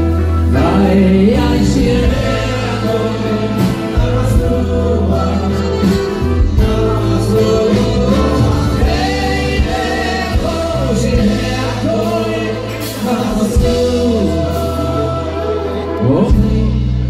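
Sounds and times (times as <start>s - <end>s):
instrumental backing with bass: 0.0s - 17.0s
man singing into a microphone: 0.0s - 17.0s
men singing along: 0.3s - 17.0s.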